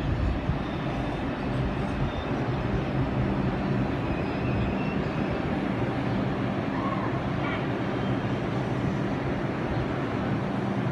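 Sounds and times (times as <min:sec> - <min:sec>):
subway train rumbling: 0:00.0 - 0:10.9.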